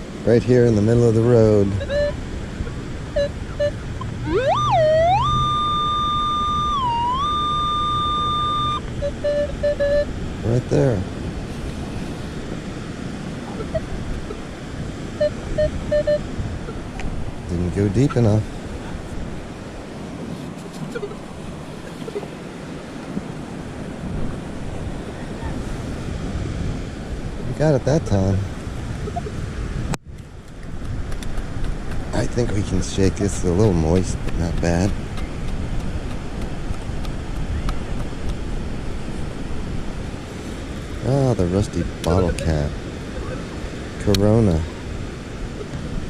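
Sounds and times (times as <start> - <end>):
ocean surf: 0.0 - 46.0
wind on microphone: 0.0 - 46.0.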